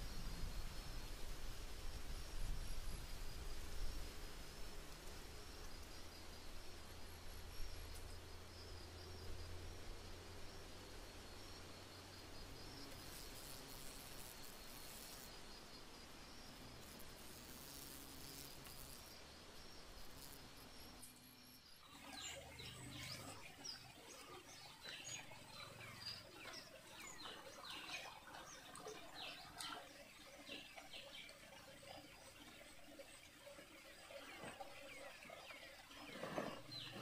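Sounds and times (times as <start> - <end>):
insects trilling: 1.8 - 37.0.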